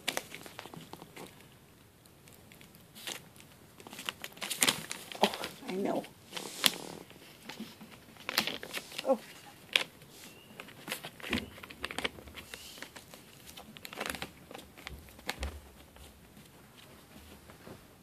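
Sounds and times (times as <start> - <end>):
newspaper crinkling and rustling: 0.0 - 18.0.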